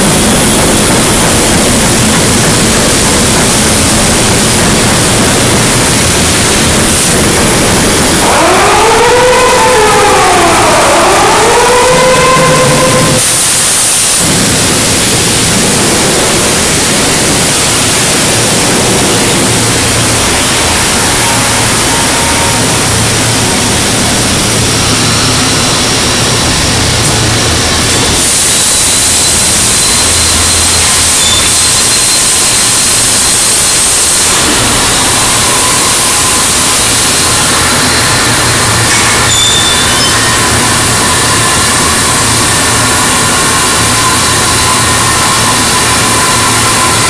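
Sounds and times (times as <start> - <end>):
heavy machinery rushing noise: 0.0 - 47.0.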